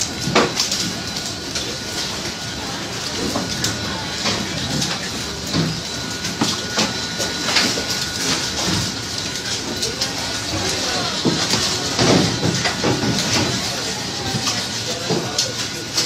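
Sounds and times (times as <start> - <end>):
machinery clicks and clanks: 0.0 - 16.0
machinery running: 0.0 - 16.0.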